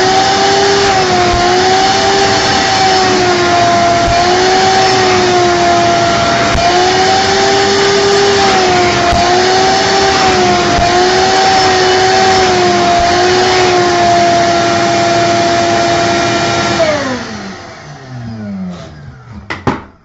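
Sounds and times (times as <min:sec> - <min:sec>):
motor winding down: 0:00.0 - 0:19.5
vacuum cleaner motor whine: 0:00.0 - 0:19.5.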